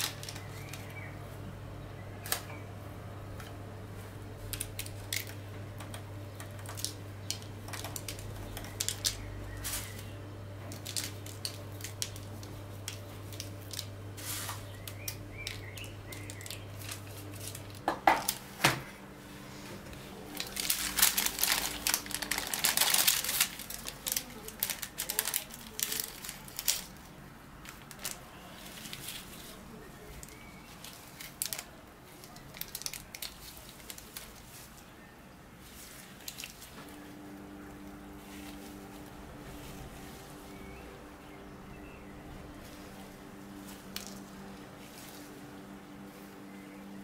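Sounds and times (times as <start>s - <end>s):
parchment paper rustling: 0.0s - 1.4s, 3.3s - 47.0s
steady low hum: 0.0s - 47.0s.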